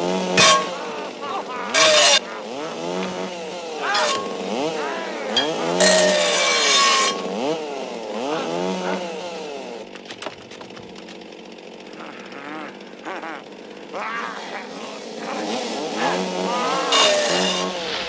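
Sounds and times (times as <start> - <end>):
chainsaws revving: 0.0 - 10.0, 10.6 - 18.0.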